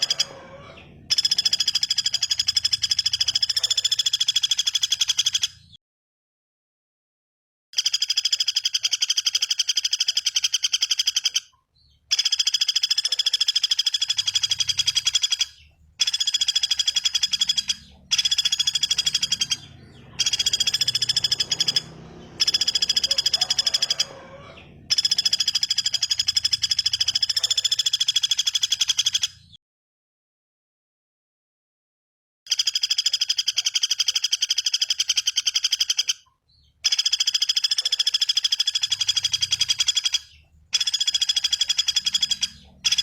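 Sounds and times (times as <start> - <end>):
bird high-pitched trill: 0.0 - 5.8, 7.8 - 29.6, 32.5 - 43.0.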